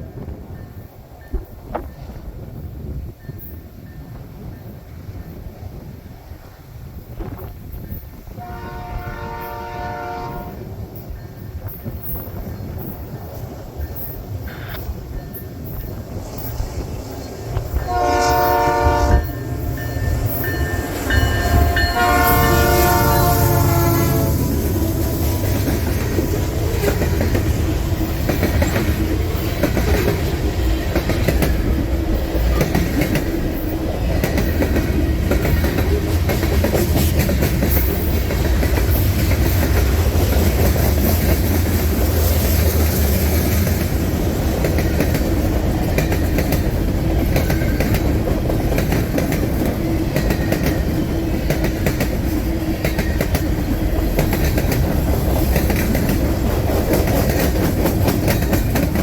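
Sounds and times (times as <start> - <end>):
freight train rumbling past: 0.0 - 59.0
wheels clicking over rail joints: 11.5 - 59.0.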